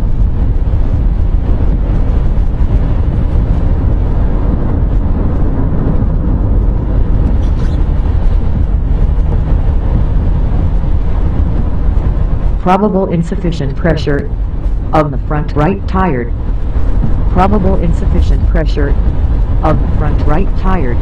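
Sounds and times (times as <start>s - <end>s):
car cabin road and engine noise: 0.0s - 21.0s.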